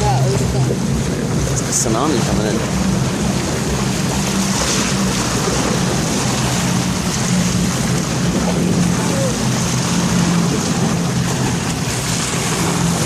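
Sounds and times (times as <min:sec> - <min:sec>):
boat engine humming: 0:00.0 - 0:13.0
rushing water: 0:00.0 - 0:13.0
wind noise: 0:00.0 - 0:13.0.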